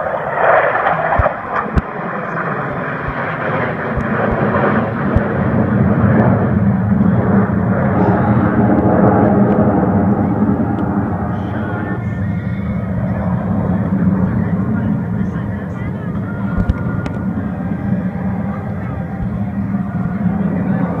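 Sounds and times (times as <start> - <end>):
aircraft flying overhead: 0.0 - 21.0.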